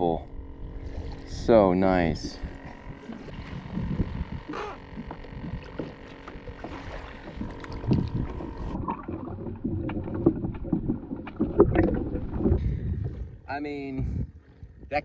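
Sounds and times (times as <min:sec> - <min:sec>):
wind on microphone: 0:00.4 - 0:06.0, 0:06.6 - 0:08.9, 0:09.6 - 0:15.0
water splashing against kayak hull: 0:00.8 - 0:13.5.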